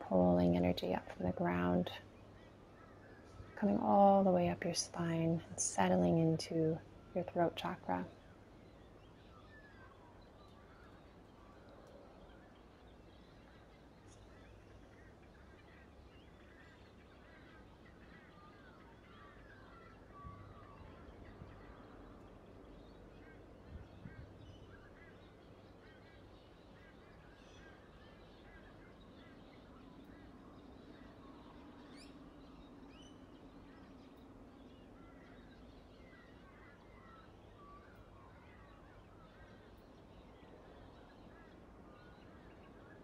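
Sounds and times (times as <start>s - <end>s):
faint birds chirping: 0.0s - 43.0s.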